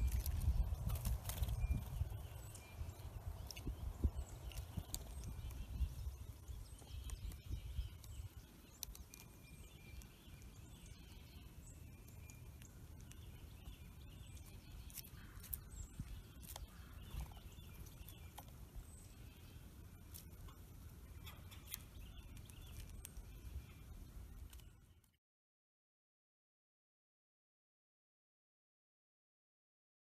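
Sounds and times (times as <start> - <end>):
distant songbirds chirping: 0.0 - 25.2.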